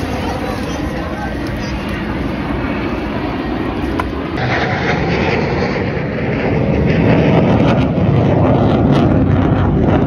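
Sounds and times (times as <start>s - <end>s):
jet engine roar overhead: 0.0s - 10.0s.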